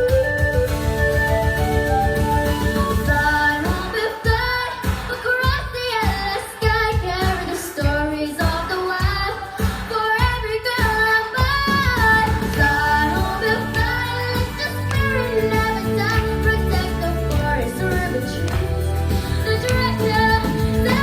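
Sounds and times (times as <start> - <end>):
young voices singing over a beat: 2.9 - 21.0.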